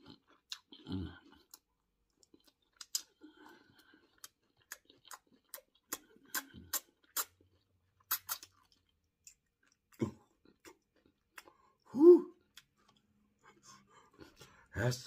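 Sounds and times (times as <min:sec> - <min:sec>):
person chewing food: 0:00.0 - 0:14.7.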